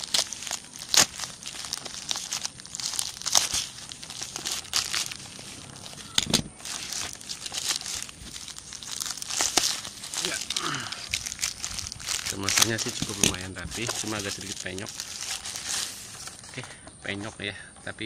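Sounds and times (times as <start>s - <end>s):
plastic bag crinkling and tearing: 0.0s - 16.8s.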